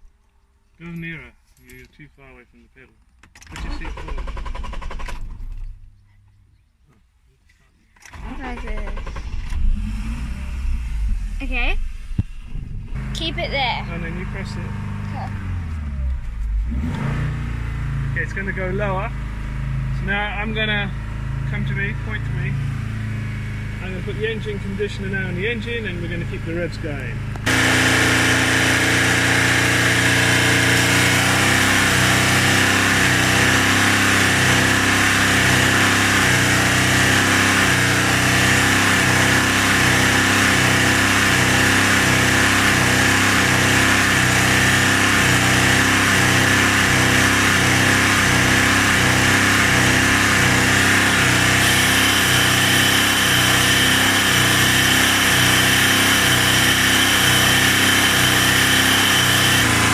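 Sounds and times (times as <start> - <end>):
car engine running at raised revs: 8.1 - 59.9.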